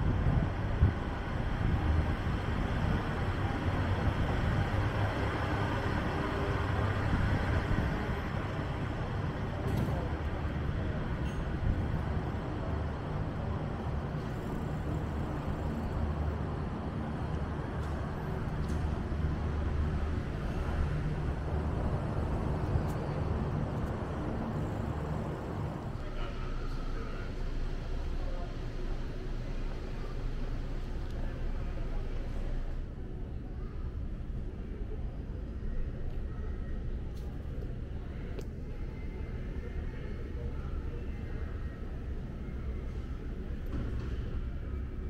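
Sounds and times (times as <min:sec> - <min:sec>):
road traffic rumble: 0:00.0 - 0:45.0.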